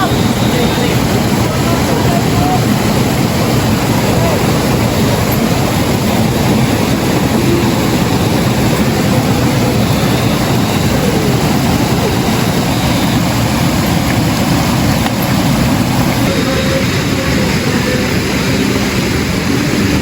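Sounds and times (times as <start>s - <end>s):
loud vehicle rumble: 0.0s - 20.0s.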